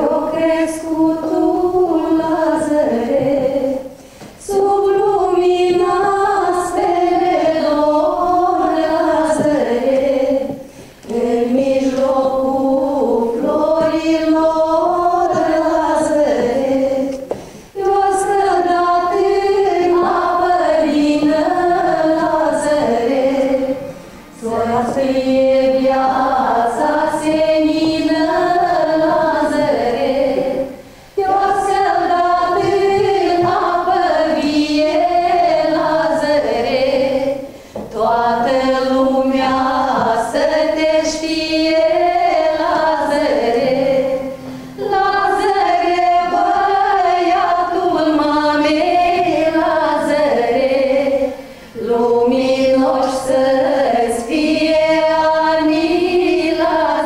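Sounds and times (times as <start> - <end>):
women singing in harmony: 0.0 - 57.0.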